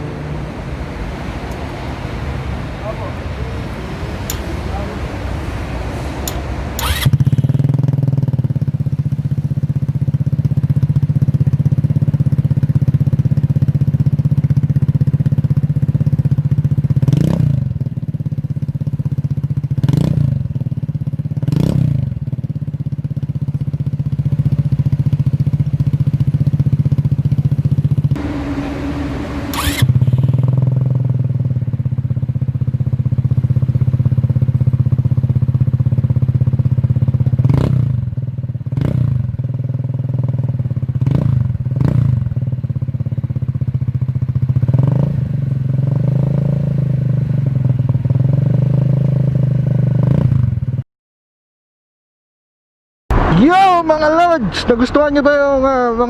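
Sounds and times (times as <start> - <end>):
scooter engine idling and revving: 0.0 - 50.8.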